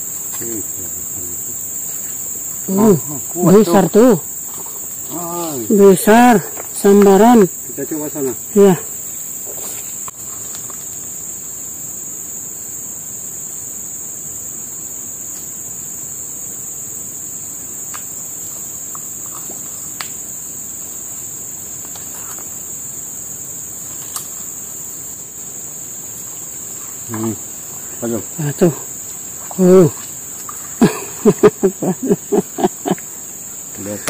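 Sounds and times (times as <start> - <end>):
insect chorus drone: 0.0 - 34.0.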